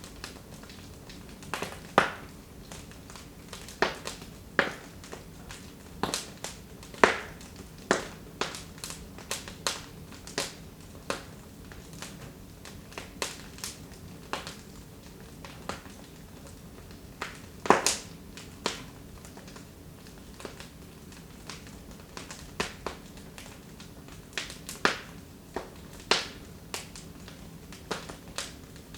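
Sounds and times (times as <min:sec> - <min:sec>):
wood fire crackling: 0:00.0 - 0:28.9.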